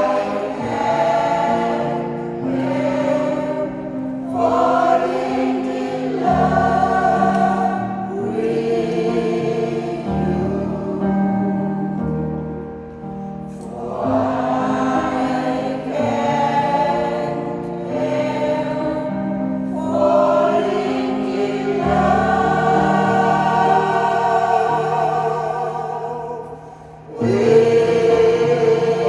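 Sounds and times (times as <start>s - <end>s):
choir singing in harmony: 0.0s - 29.0s.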